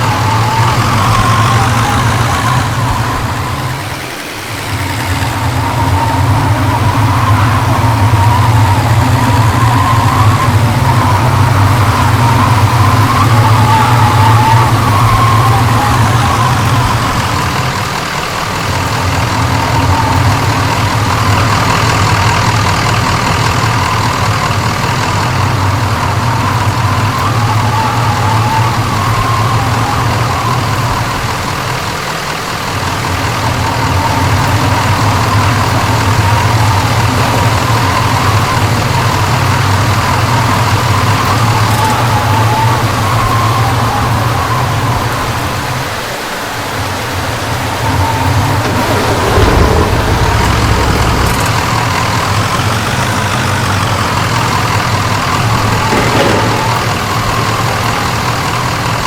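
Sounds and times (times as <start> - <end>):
car engine and road noise: 0.0 - 59.0
constant noise wash: 0.0 - 59.0.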